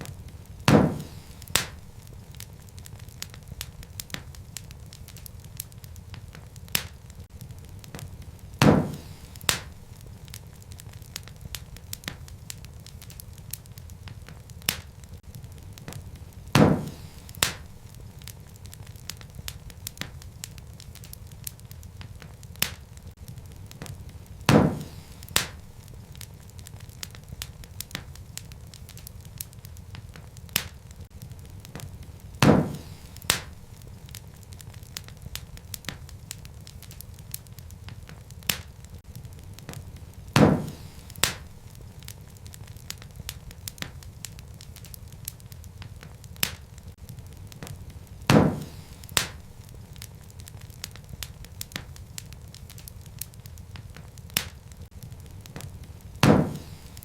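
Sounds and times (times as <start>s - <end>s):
loud fire pops: 0.0s - 57.0s
low rumble of flames: 0.0s - 57.0s
wood fire crackling: 0.0s - 57.0s.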